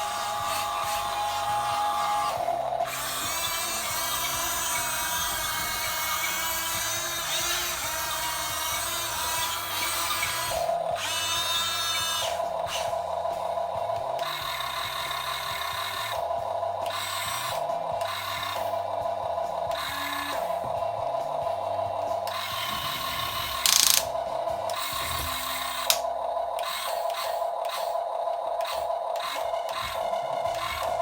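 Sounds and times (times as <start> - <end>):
small electric motors whirring: 0.0 - 31.0.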